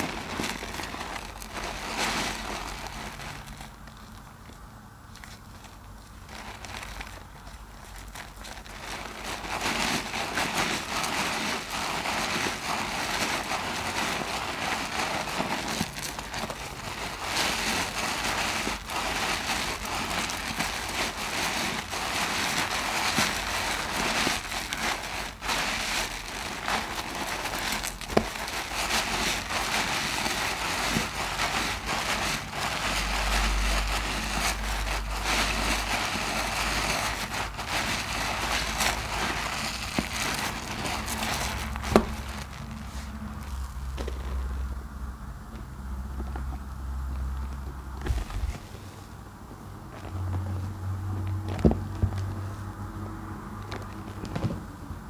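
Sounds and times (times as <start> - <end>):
foam crackling: 0.0 - 55.0.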